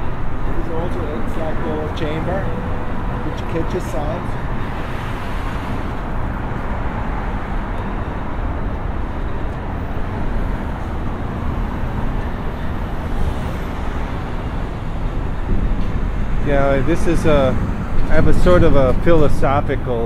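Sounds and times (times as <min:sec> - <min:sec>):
low city traffic rumble: 0:00.0 - 0:20.0.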